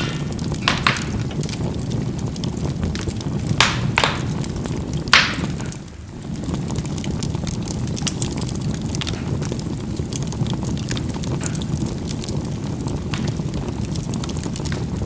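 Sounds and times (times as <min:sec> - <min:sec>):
charcoal popping: 0:00.0 - 0:15.0
fire crackling: 0:00.0 - 0:15.0
low rumble of flame: 0:00.0 - 0:15.0.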